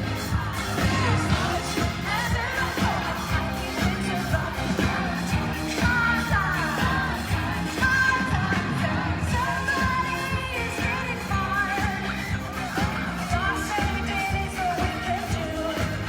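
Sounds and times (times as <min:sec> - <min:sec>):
live pop-rock band playing: 0:00.0 - 0:16.0
woman singing: 0:00.0 - 0:16.0.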